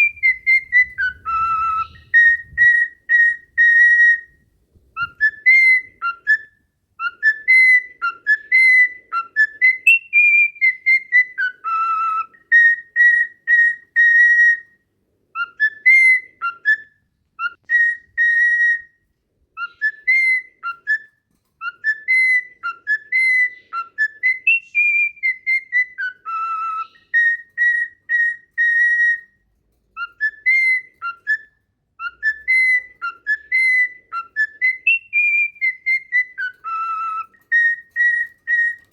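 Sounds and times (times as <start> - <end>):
whistled tune: 0.0 - 4.4, 5.0 - 14.8, 15.4 - 19.0, 19.6 - 29.4, 30.0 - 38.9.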